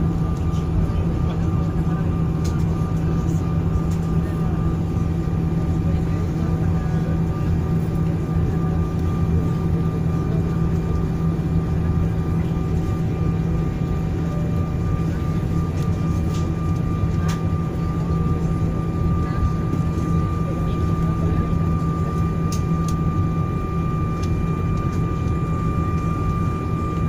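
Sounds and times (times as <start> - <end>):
jet engine drone in cabin: 0.0 - 27.0.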